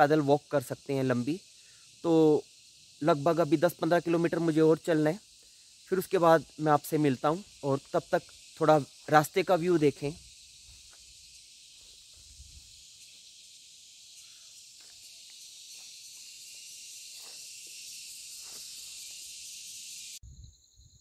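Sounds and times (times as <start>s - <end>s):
crickets buzzing: 0.0s - 21.0s.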